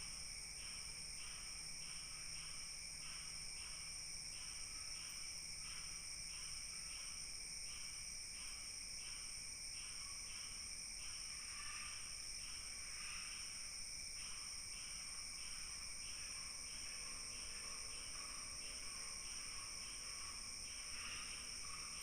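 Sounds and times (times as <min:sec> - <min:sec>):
crickets trilling and chirping: 0:00.0 - 0:22.0.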